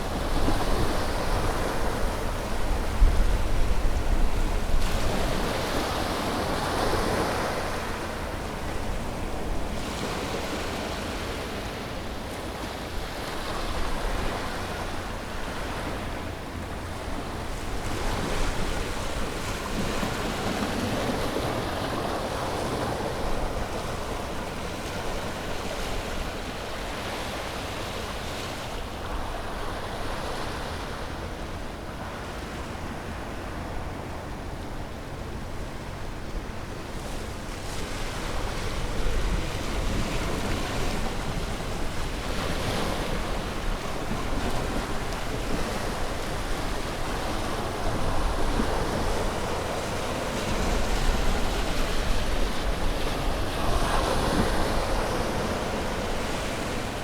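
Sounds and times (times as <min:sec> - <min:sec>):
ocean waves breaking on shore: 0:00.0 - 0:57.0
wind rumble on microphone: 0:00.0 - 0:57.0.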